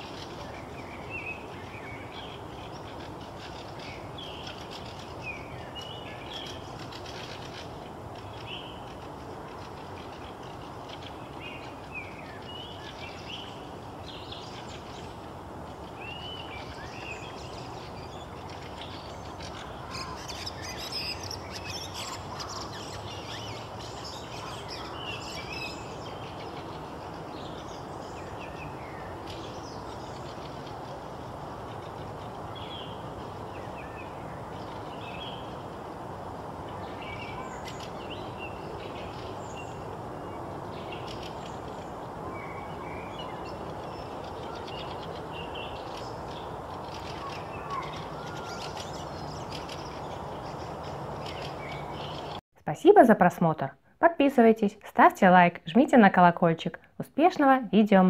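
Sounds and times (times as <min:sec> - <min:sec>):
songbirds chirping and singing: 0:00.0 - 0:35.8, 0:36.5 - 0:52.4
background hiss: 0:00.0 - 0:57.4.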